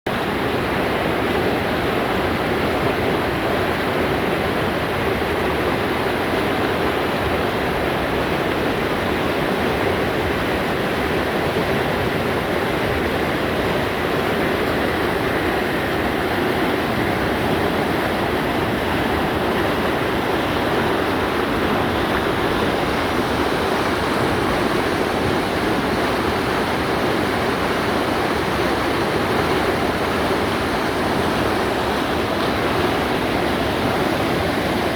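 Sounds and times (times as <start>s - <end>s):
mountain stream rushing: 0.1s - 34.9s.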